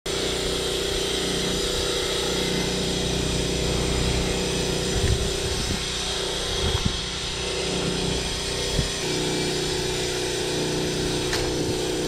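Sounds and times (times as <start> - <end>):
small engine humming: 0.1 - 12.0.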